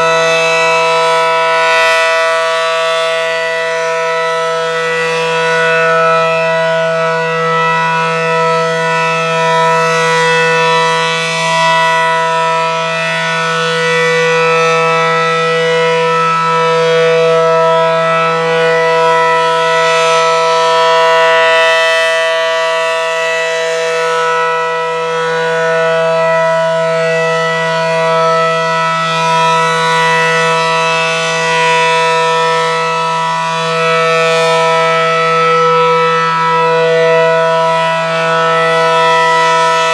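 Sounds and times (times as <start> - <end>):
warning siren: 0.0 - 39.9.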